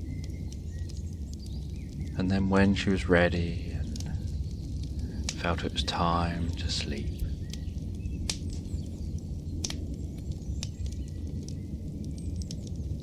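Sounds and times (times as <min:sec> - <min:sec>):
fire crackles: 0:00.0 - 0:13.0
low fire rumble: 0:00.0 - 0:13.0.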